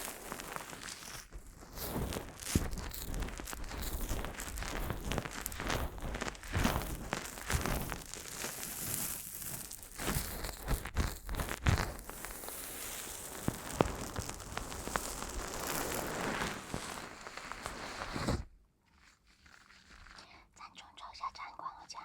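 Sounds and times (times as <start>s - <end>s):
crinkling and rustling: 0.0s - 20.7s.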